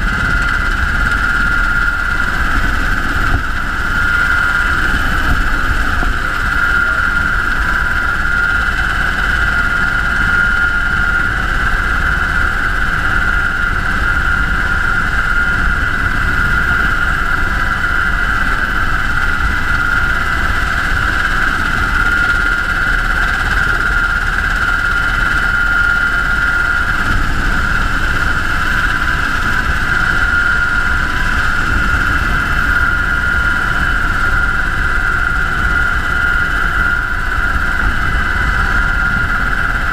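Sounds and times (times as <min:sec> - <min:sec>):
helicopter in flight: 0:00.0 - 0:39.9.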